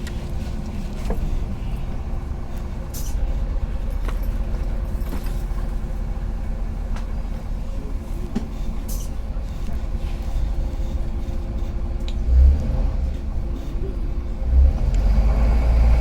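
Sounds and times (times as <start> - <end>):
bus engine rumbling: 0.0 - 16.0.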